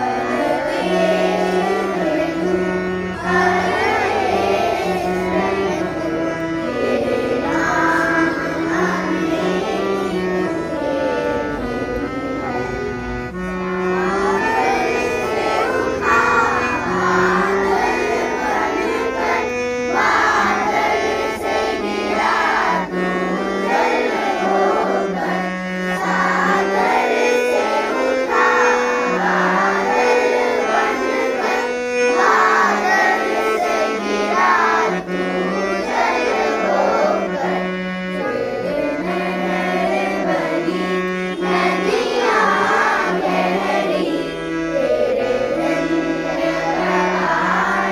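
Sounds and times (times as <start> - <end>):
reedy wind instrument notes: 0.0 - 47.9
voices singing a melody: 0.0 - 47.9.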